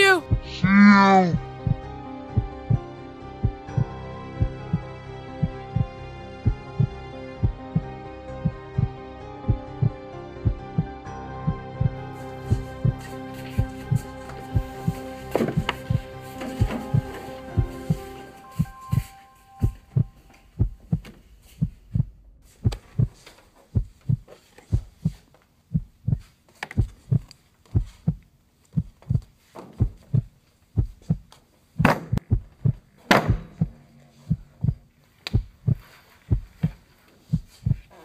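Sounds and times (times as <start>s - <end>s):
heartbeat double thumps: 0.2s - 19.0s, 19.6s - 37.9s.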